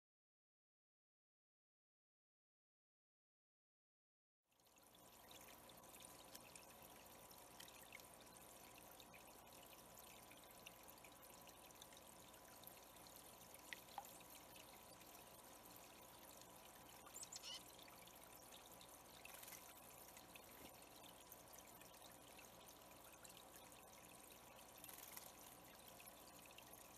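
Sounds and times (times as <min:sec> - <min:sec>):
water trickling over rocks: 0:04.5 - 0:26.9.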